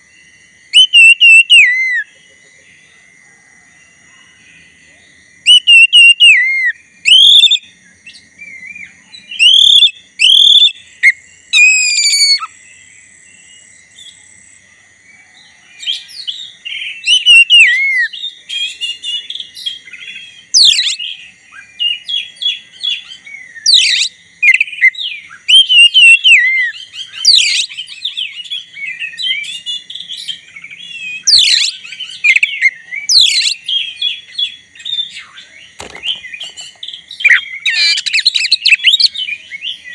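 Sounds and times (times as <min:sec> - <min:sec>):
bird song with whistled phrases: 0:00.0 - 0:03.0, 0:04.1 - 0:14.4, 0:15.1 - 0:39.9.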